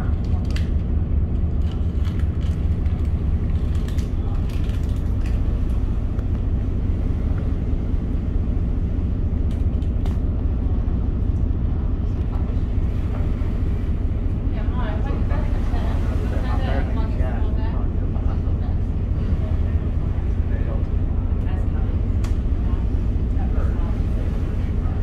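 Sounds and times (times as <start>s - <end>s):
boat engine rumble: 0.0s - 25.0s.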